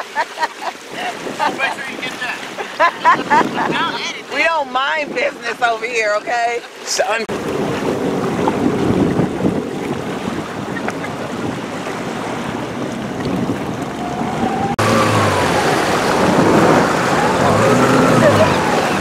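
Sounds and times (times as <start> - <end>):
water noise: 0.0 - 19.0
wind buffeting microphone: 0.8 - 5.8, 7.3 - 19.0
jet ski engines revving: 0.8 - 19.0.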